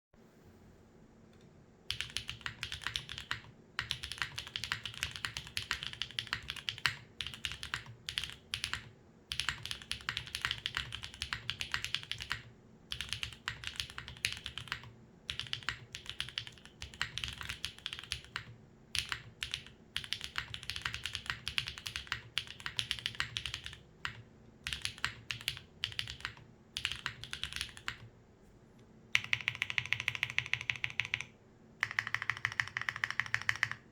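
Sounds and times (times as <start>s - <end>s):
mechanical keyboard typing: 1.9s - 28.1s, 29.1s - 33.9s.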